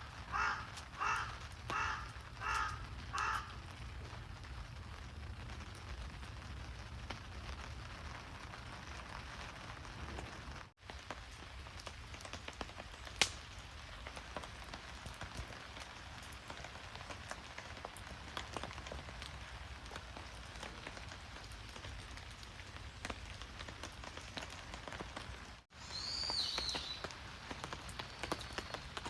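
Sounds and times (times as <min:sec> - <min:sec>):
rain falling: 0:00.0 - 0:29.0
sharp ticks of raindrops: 0:00.0 - 0:29.0.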